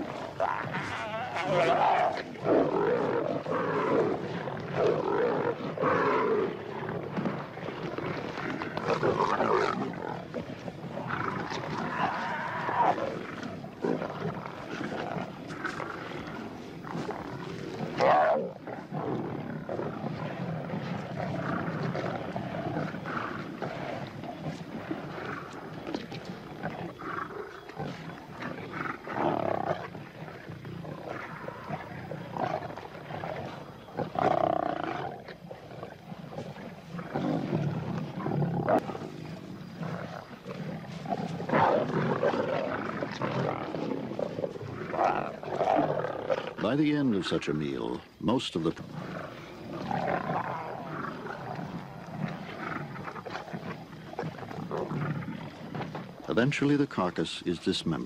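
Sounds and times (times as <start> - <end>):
lions growling and snarling: 0.0 - 58.0.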